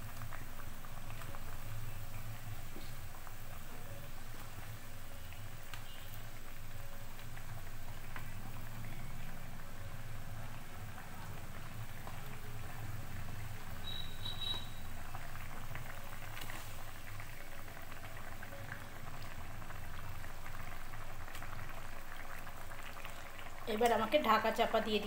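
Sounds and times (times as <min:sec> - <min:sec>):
curry boiling and bubbling: 0:00.0 - 0:25.0.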